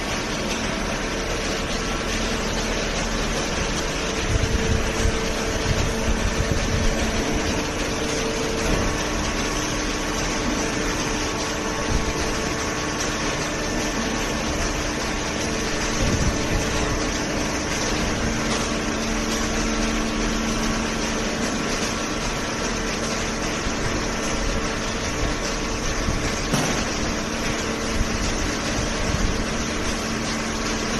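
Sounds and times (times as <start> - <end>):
paper baler machine humming: 0.0 - 30.9.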